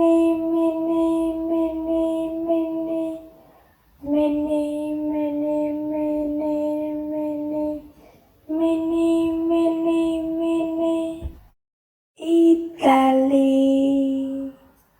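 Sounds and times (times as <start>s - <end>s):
person chanting syllables: 0.0s - 11.3s, 12.2s - 14.7s.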